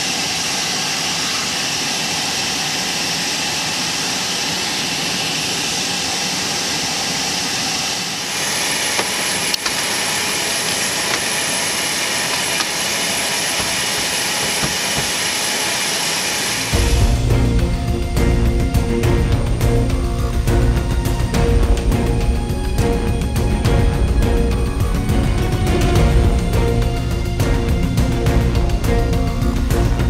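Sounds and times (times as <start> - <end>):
jet turbine noise: 0.0 - 30.0.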